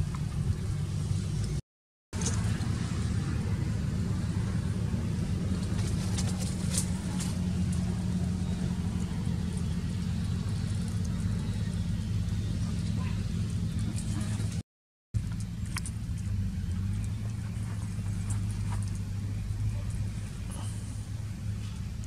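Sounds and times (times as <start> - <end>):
low mechanical hum: 0.0 - 1.6, 2.2 - 14.6, 15.2 - 22.0.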